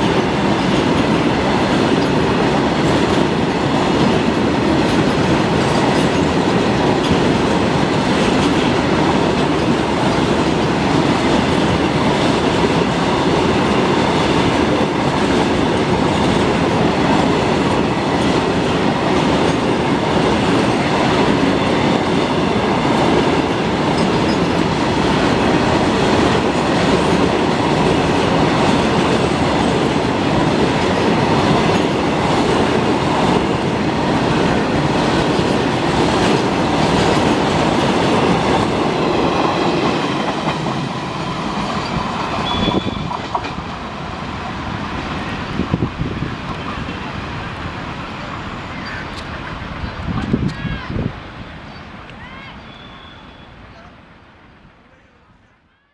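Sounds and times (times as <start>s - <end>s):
train wheels clattering on track: 0.0s - 50.6s.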